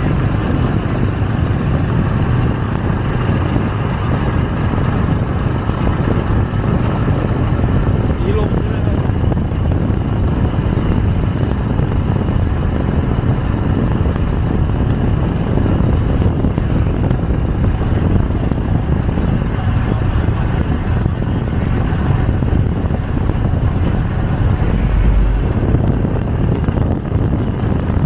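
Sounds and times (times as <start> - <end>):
motorcycle engine: 0.0 - 28.0
road noise: 0.0 - 28.0
wind rush on microphone: 0.0 - 28.0.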